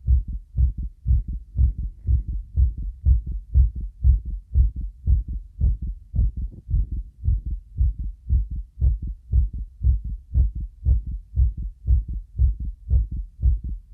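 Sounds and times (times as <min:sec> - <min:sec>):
heartbeat thumps: 0:00.0 - 0:13.9.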